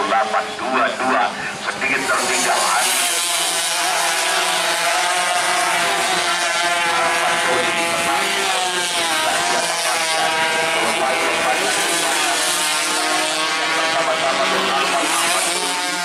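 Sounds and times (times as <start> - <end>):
race motorcycles buzzing at high revs: 0.0 - 16.0.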